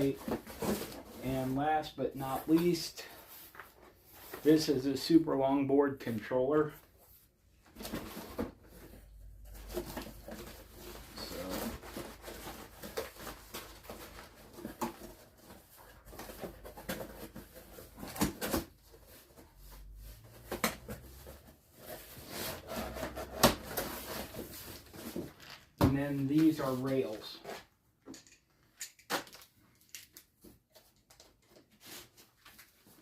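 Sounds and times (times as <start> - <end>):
parts and packaging handling: 0.0 - 5.1, 6.5 - 33.0.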